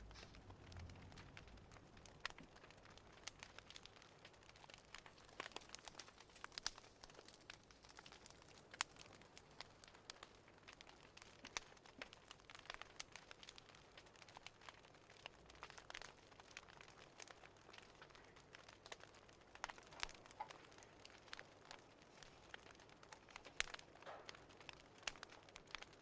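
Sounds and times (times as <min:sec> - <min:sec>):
fireplace crackling: 0:00.0 - 0:26.0.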